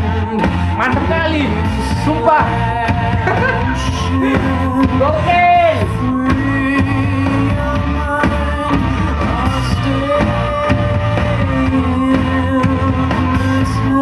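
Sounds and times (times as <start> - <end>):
pop song with singer: 0.0 - 14.0
steady bass beat: 0.0 - 14.0.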